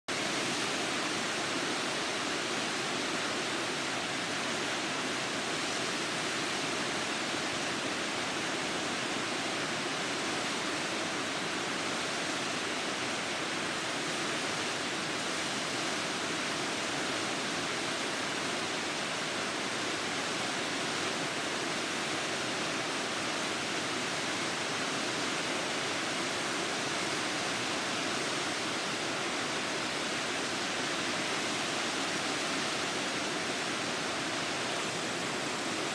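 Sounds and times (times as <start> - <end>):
water rushing through floodgate: 0.1 - 35.9.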